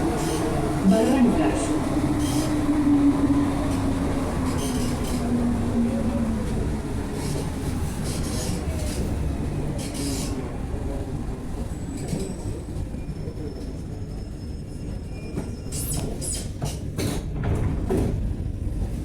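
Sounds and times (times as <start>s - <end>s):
train running gear rumble: 0.0s - 19.0s.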